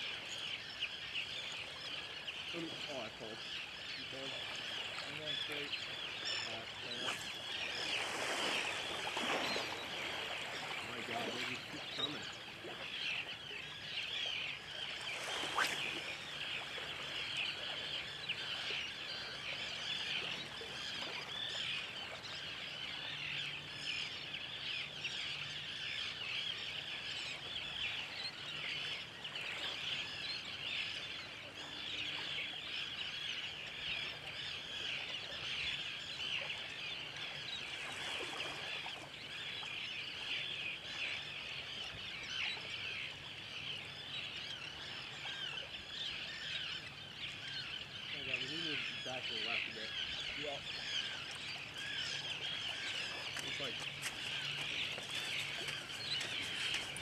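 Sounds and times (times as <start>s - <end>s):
flock of birds chattering: 0.0s - 57.0s.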